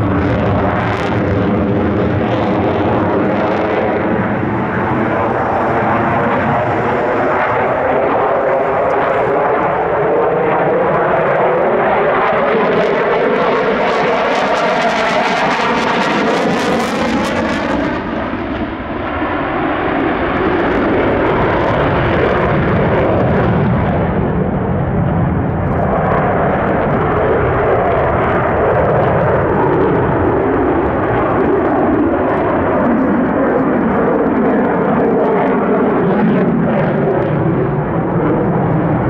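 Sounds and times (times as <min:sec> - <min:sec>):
jet engine deep rumble: 0:00.0 - 0:39.0.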